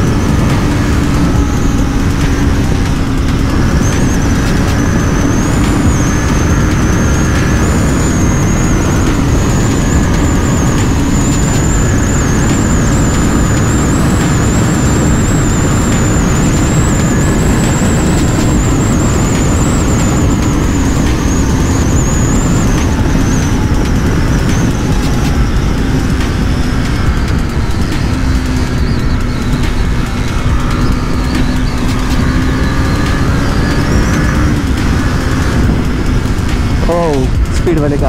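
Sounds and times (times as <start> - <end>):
thin high whistle: 0.0 - 37.6
motorcycle engine running: 0.0 - 38.0
wind rushing over microphone: 0.0 - 38.0.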